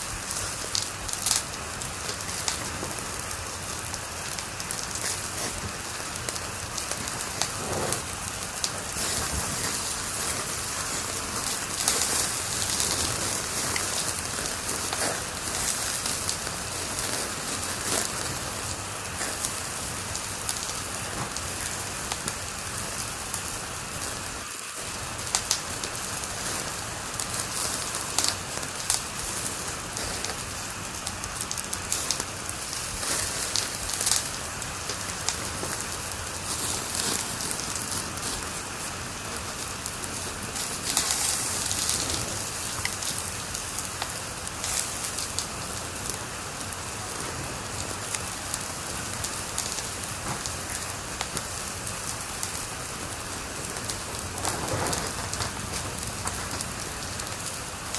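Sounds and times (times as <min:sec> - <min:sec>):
fire crackling and popping: 0:00.0 - 0:57.9
fire hissing: 0:00.0 - 0:57.9.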